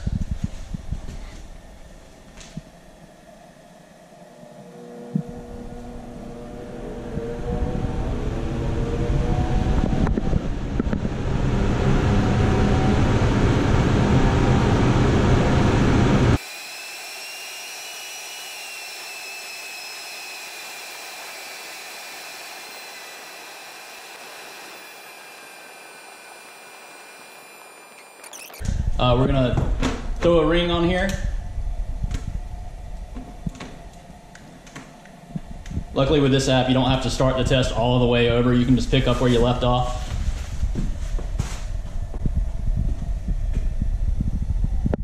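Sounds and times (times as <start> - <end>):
fan whine: 0.0 - 45.0.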